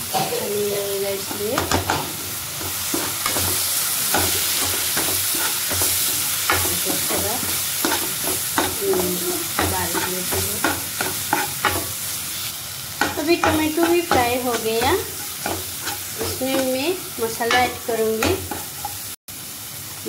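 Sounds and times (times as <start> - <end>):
paste sizzling in hot oil: 0.0 - 20.0
steel spoon scraping pan: 1.2 - 12.1, 13.0 - 19.1.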